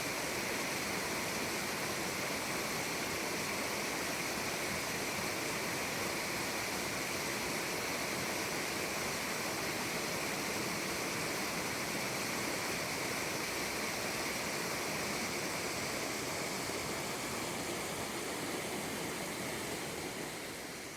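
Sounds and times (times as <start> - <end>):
mountain stream rushing: 0.0 - 20.9.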